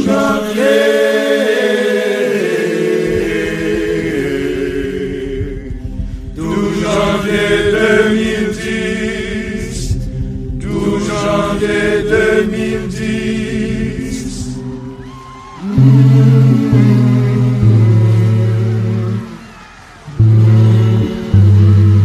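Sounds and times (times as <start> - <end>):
chanted vocal music: 0.0 - 15.0, 15.6 - 19.4.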